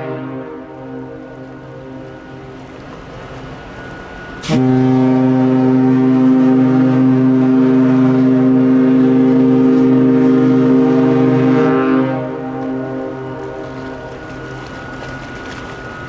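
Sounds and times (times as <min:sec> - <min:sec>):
ship's horn blast: 0:00.0 - 0:16.0.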